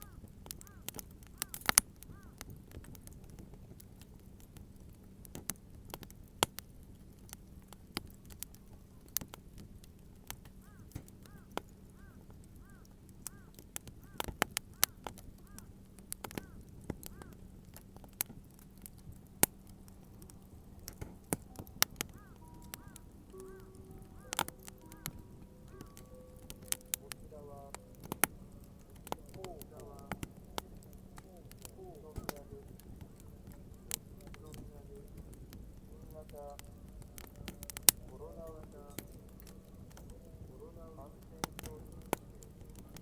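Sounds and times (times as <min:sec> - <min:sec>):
faint steady hum: 0:00.0 - 0:43.0
wood fire crackling and popping: 0:00.0 - 0:43.0.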